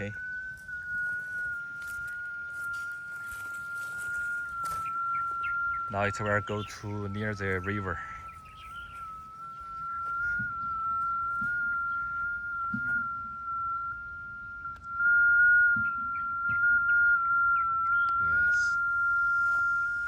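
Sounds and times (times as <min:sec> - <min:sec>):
high-pitched signal tone: 0:00.0 - 0:20.0.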